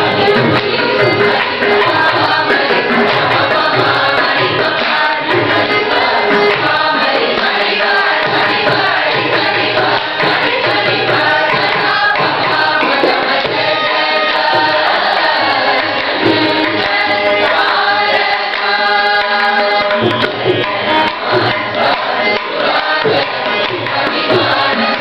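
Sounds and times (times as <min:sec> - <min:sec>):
group singing a devotional song: 0:00.0 - 0:25.0.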